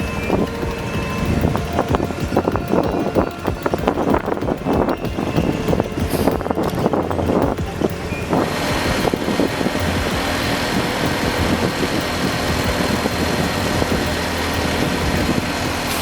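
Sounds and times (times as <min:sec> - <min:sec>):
constant noisy rush: 0:00.0 - 0:16.0
vehicle engine running: 0:00.0 - 0:16.0.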